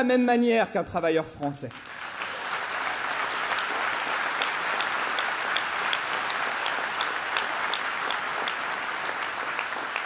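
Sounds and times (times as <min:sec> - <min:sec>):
audience applauding: 0:01.7 - 0:10.0
individual sharp claps: 0:01.7 - 0:10.0.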